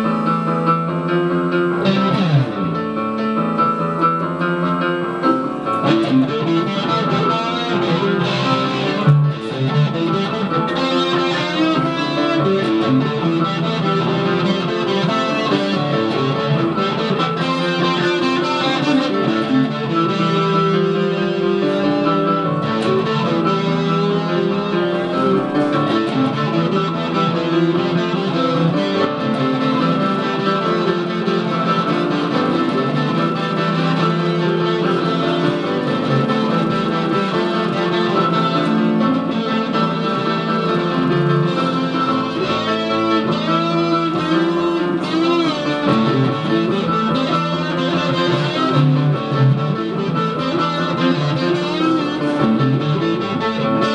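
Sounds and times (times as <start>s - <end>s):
electric guitar: 0.0s - 53.9s
keyboard playing: 0.0s - 53.9s.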